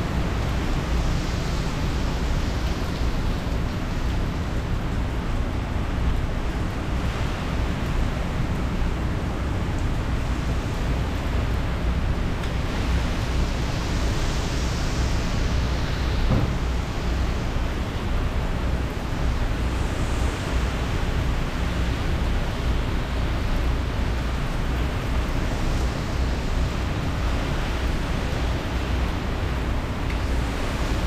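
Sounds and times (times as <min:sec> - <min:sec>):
strong wind and heavy rain: 0:00.0 - 0:31.0
wind rumbling on microphone: 0:00.0 - 0:31.0.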